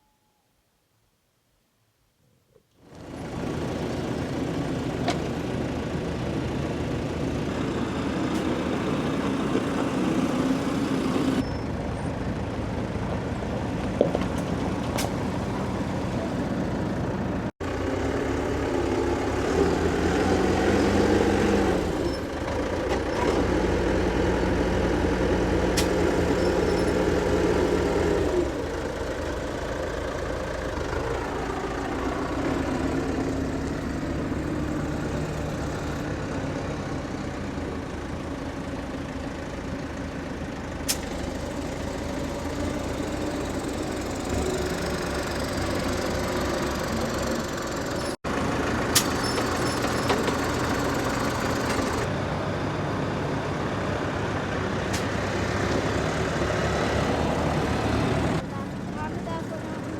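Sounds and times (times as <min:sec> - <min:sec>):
tractor engine running: 0:02.8 - 0:59.9.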